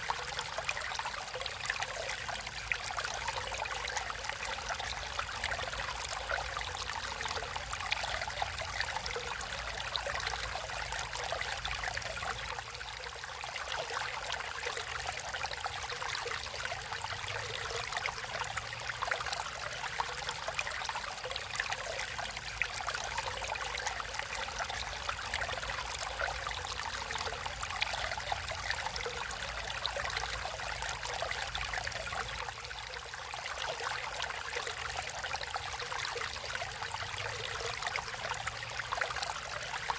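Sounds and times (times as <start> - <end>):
stream running and trickling: 0.0 - 39.9.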